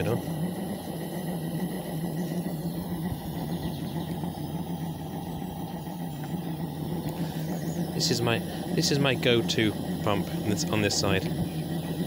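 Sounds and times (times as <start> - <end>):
model steam locomotive running: 0.0 - 12.0
steady low hum: 0.0 - 12.0.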